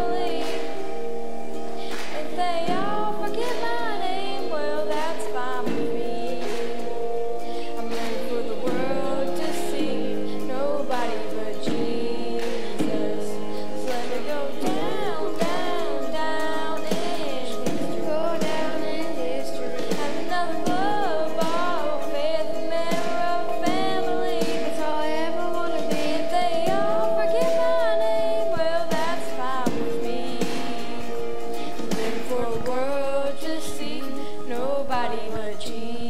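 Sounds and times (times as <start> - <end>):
acoustic guitar: 0.0 - 36.0
children singing gospel song: 0.0 - 36.0.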